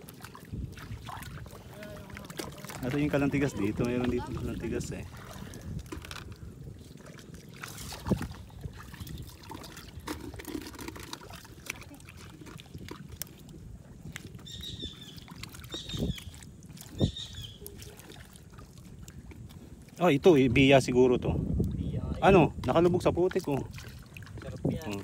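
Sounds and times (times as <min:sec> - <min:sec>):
squelching in wet mud: 0:00.0 - 0:20.8, 0:23.0 - 0:25.0.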